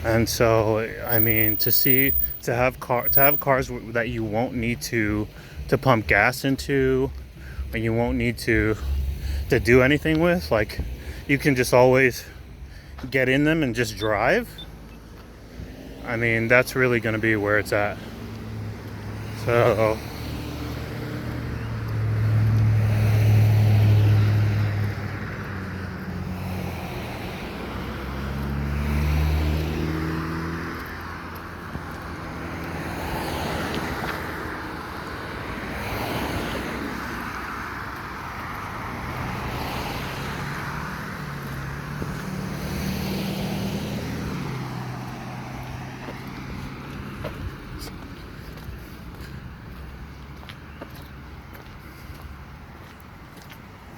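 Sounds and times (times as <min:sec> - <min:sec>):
cars passing: 0:00.0 - 0:53.9.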